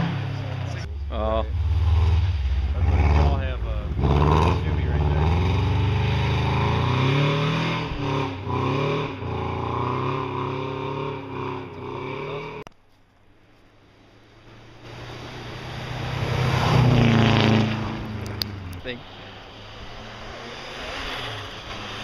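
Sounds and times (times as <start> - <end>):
rally car engine at high revs: 0.0 - 12.7, 14.9 - 18.5, 19.2 - 22.0
rally car passing: 0.0 - 12.7, 13.8 - 22.0.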